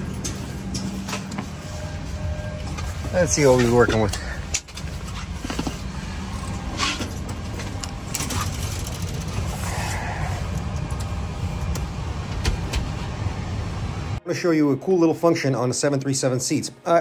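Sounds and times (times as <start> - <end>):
low machine rumble: 0.0 - 14.2.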